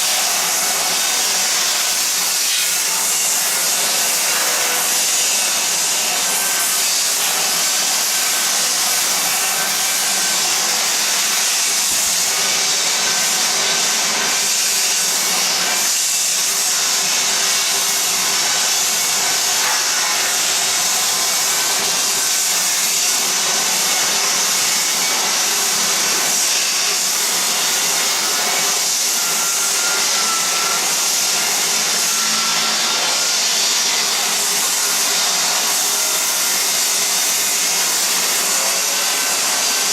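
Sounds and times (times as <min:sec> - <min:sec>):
floor sander running: 0:00.0 - 0:39.9.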